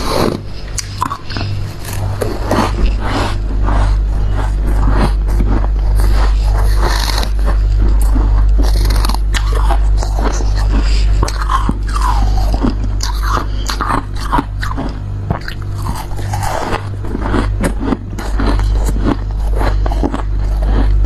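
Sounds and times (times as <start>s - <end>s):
chewing crunchy frost: 0.0s - 21.0s
low hum: 0.0s - 21.0s.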